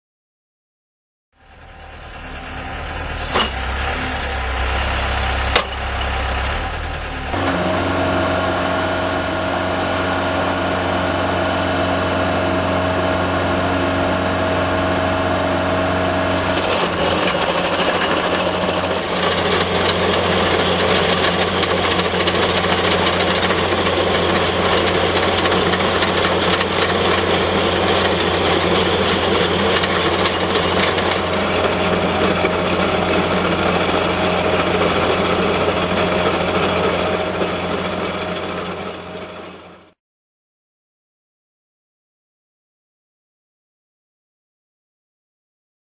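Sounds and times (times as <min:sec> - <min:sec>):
planer drum whine: 0:01.4 - 0:39.9
loader engine running: 0:01.4 - 0:40.0
planer grinding pavement: 0:01.4 - 0:40.0.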